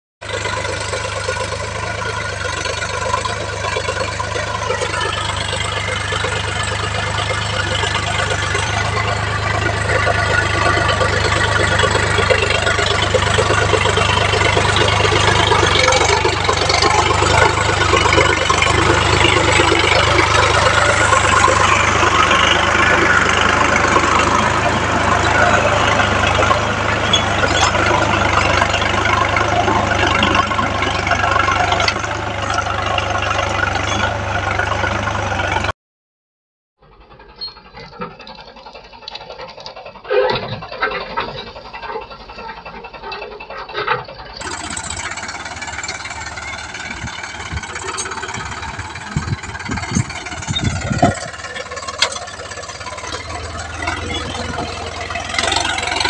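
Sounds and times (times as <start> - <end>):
rotary tiller churning clatter: 0.2 - 35.7, 36.8 - 56.0
tractor diesel engine running: 0.2 - 35.8, 36.8 - 56.0.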